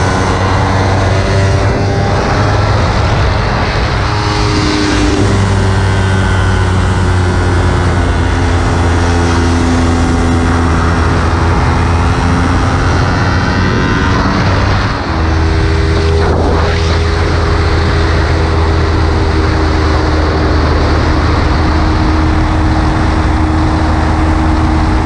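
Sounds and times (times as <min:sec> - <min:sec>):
motorcycle engine running hard: 0:00.0 - 0:25.0
wind noise: 0:00.0 - 0:25.0.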